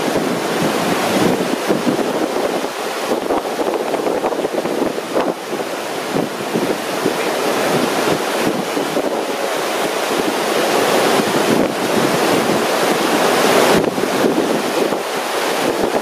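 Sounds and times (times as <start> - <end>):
whitewater rushing: 0.0 - 16.0
wind buffeting microphone: 0.0 - 16.0.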